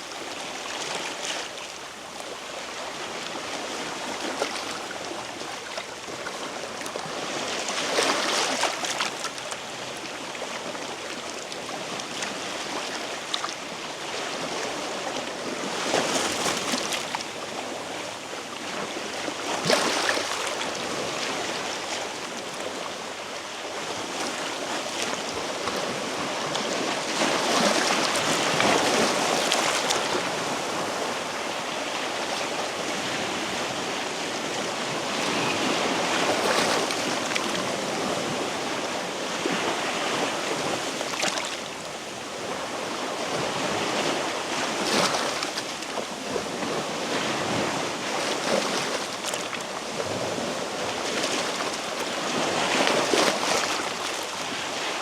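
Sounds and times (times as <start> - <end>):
waves washing on rocky shore: 0.0 - 55.0.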